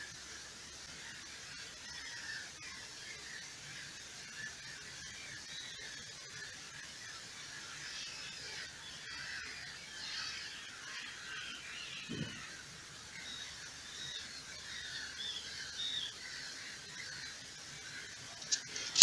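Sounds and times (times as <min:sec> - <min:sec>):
chorus of high chirping calls: 0:01.0 - 0:19.0.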